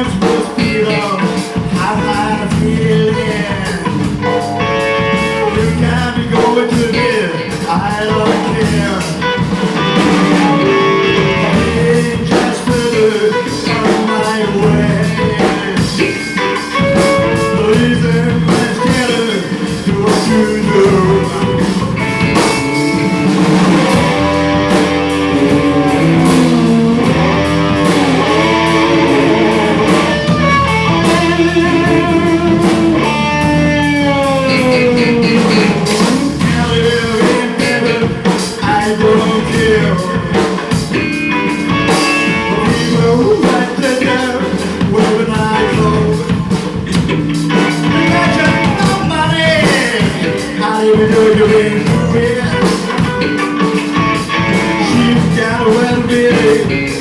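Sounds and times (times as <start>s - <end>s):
bass and drums: 0.0s - 57.0s
electric guitar: 0.0s - 57.0s
person singing: 0.0s - 57.0s.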